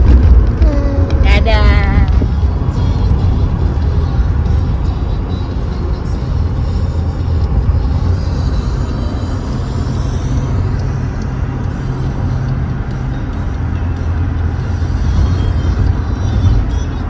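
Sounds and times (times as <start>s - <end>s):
car driving rumble: 0.0s - 17.0s
music playing: 0.6s - 17.0s.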